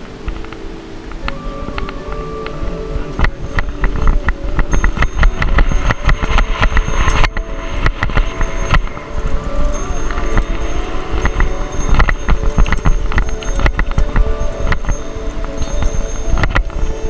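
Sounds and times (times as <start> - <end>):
bicycle rattling over gravel: 0.0 - 17.0
wind buffeting microphone: 0.0 - 17.0.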